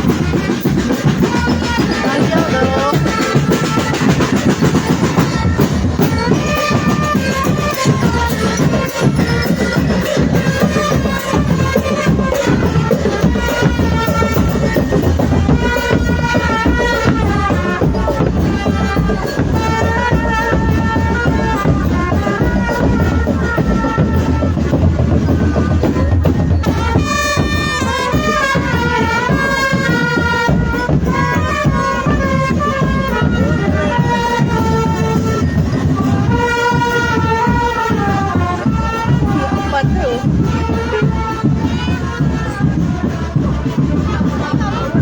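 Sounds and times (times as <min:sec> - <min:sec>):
dense drumming: 0:00.0 - 0:45.0.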